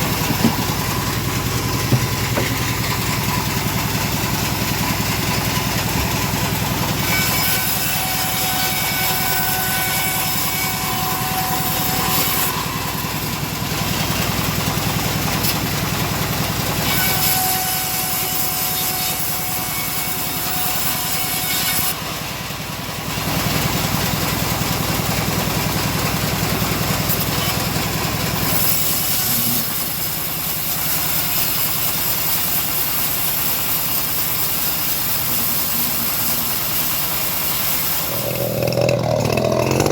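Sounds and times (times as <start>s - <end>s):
bandsaw mill sawing log: 0.0s - 39.9s.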